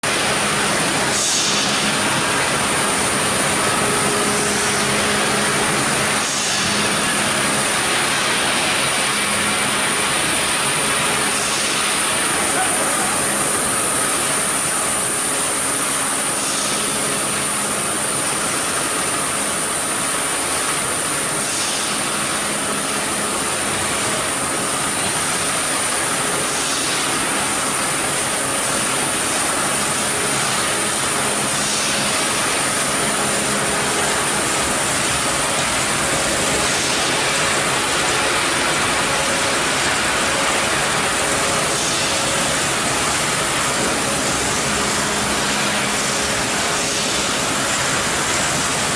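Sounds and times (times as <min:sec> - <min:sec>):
machinery high-pitched whine: 0:00.0 - 0:48.9.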